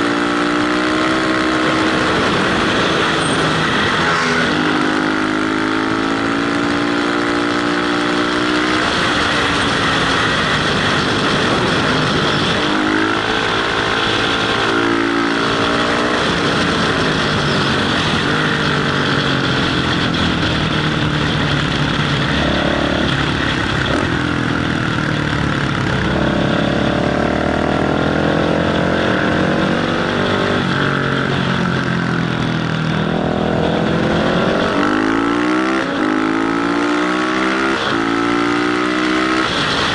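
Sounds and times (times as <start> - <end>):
wind rush on microphone: 0.0 - 6.8, 7.9 - 36.0
motorcycle engine accelerating: 0.0 - 39.9.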